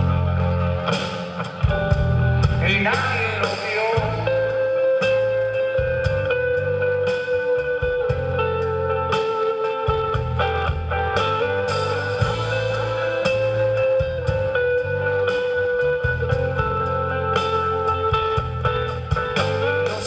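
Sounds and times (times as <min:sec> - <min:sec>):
bass guitar: 0:00.0 - 0:20.0
drums: 0:00.0 - 0:20.0
electric guitar lead: 0:00.0 - 0:20.0.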